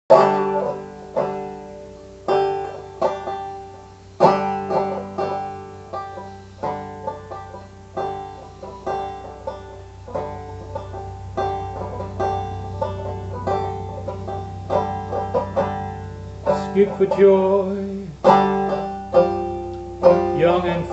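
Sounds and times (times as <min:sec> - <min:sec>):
banjo playing: 0:00.1 - 0:20.9
steady low hum: 0:00.1 - 0:20.9.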